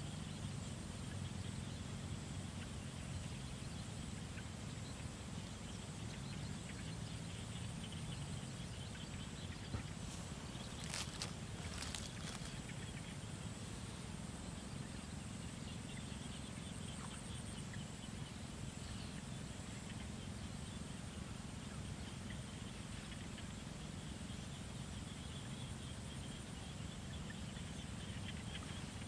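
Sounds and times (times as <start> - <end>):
low steady rumble: 0.0 - 29.0
faint scattered calls: 0.1 - 29.0
high thin insect drone: 2.0 - 29.0.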